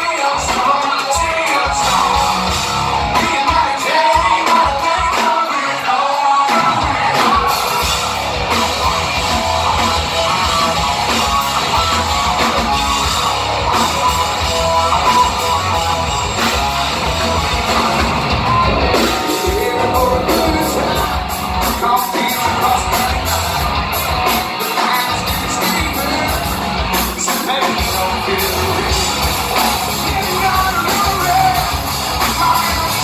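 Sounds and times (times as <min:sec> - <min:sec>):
electric guitar: 0:00.0 - 0:33.0
hard rock band playing: 0:00.0 - 0:33.0.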